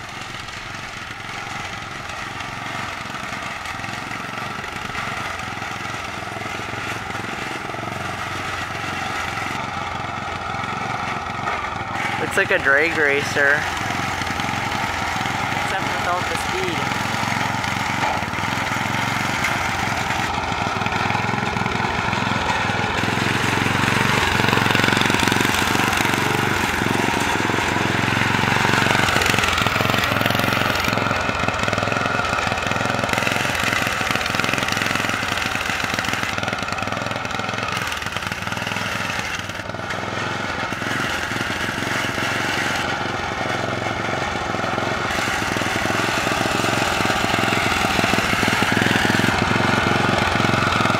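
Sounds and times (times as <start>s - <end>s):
riding lawn mower engine: 0.0s - 50.9s.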